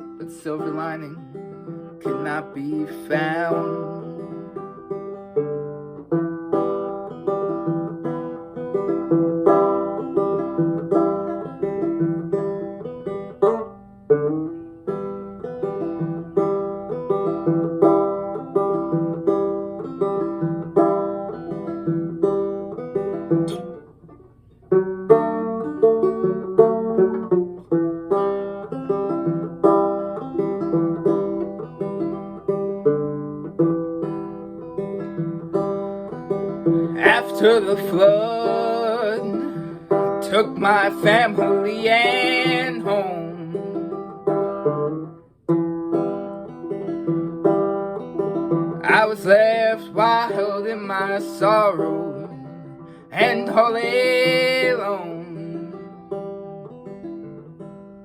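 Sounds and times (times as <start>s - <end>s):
acoustic banjo picking: 0.0s - 58.0s.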